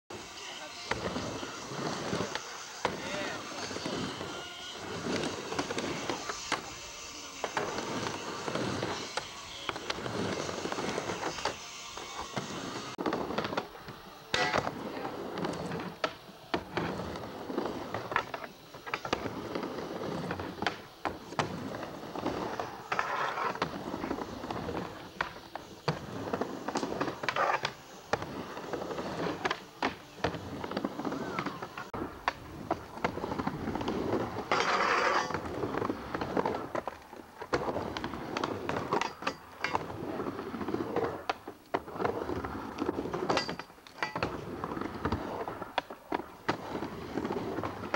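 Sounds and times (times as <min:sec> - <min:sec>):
skateboard wheels rolling on ramp: 0:00.1 - 0:47.9.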